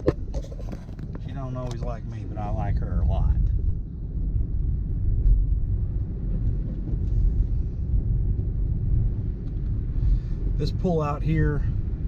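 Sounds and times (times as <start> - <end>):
car driving on snowy road: 0.0 - 12.0.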